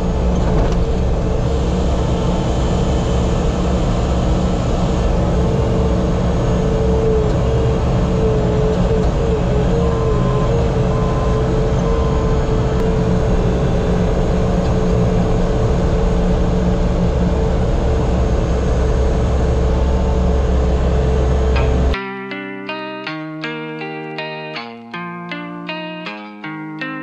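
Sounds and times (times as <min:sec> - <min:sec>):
heavy machine engine running: 0:00.0 - 0:22.0
high whine: 0:00.0 - 0:26.2.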